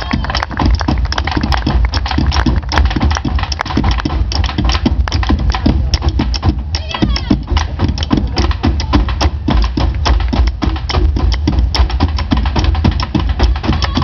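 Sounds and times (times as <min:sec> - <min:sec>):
steady drumming: 0:00.0 - 0:14.0.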